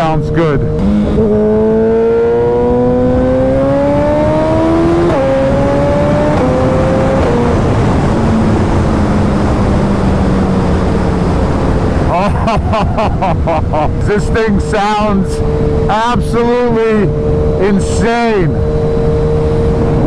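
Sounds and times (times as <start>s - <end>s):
motorcycle engine revving: 0.0s - 20.0s
wind noise: 0.0s - 20.0s
gear upshifts: 0.3s - 20.0s.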